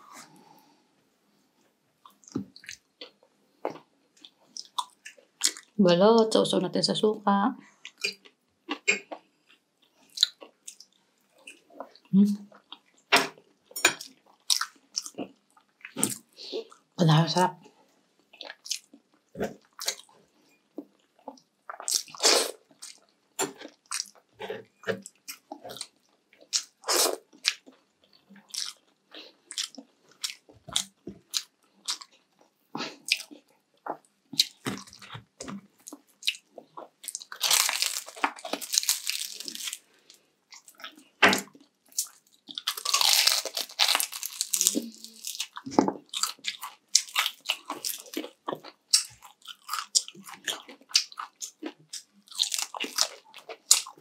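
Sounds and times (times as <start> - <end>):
person chewing crisp food: 2.0 - 5.8, 7.8 - 16.8, 18.3 - 54.0.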